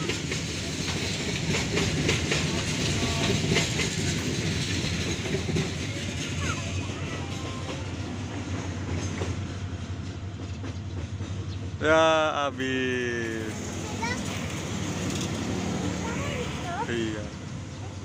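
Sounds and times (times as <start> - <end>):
wheels clacking over rail joints: 0.0 - 11.8, 12.6 - 18.0
freight wagons rumbling past: 0.0 - 18.0.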